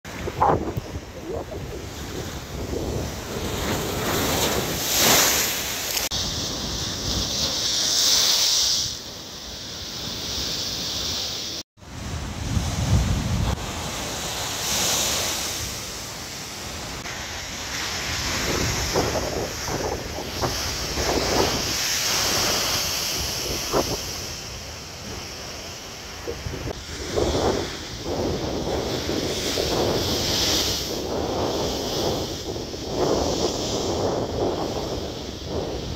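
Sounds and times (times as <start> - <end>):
wind buffeting microphone: 0.0 - 7.8, 11.9 - 14.8, 16.6 - 35.9
waves crashing against seawall: 0.1 - 35.9.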